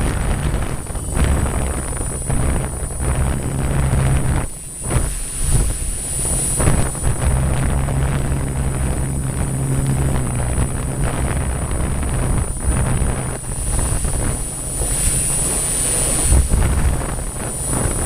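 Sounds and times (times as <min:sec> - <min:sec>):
drone motors humming: 0:00.0 - 0:18.0
gusty wind buffeting: 0:00.0 - 0:18.0
thin high whine: 0:00.0 - 0:18.0.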